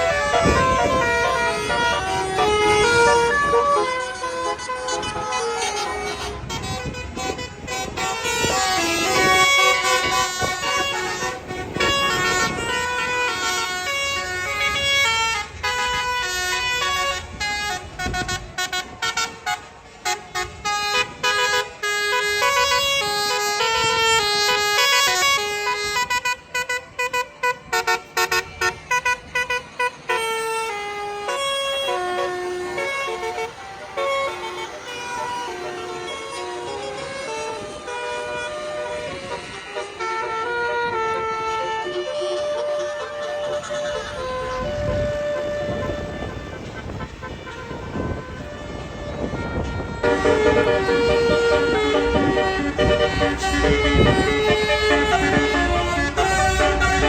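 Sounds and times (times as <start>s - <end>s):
bus engine running: 0.0s - 57.0s
multi-tone air horn melody: 0.0s - 57.0s.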